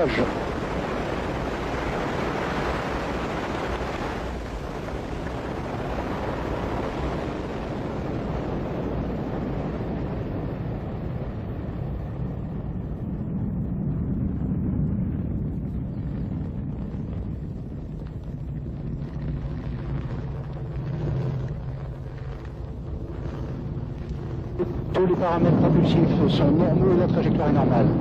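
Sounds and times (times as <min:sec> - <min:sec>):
rocket engine rumble: 0:00.0 - 0:28.0.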